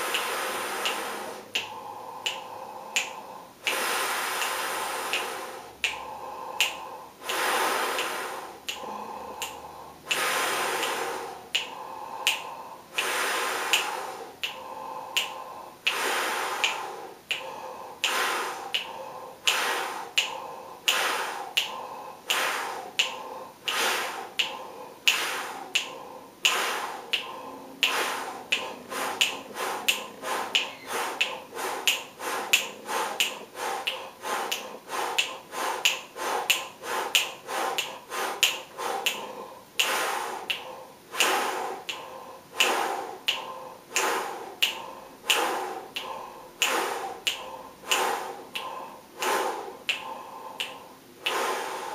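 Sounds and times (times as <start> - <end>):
finger snaps: 0.0 - 51.9
person breathing forcefully: 0.0 - 51.9.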